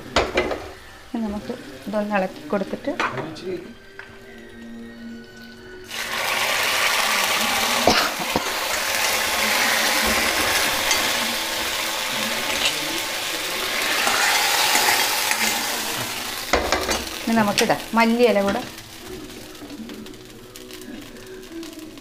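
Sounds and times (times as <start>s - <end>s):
hot oil sizzling: 0.0s - 22.0s.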